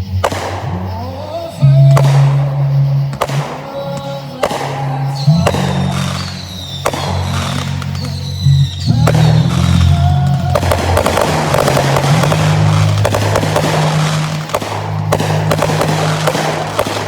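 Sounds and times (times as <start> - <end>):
fireworks crackling and popping: 0.0 - 17.0
music with low notes: 0.0 - 17.0.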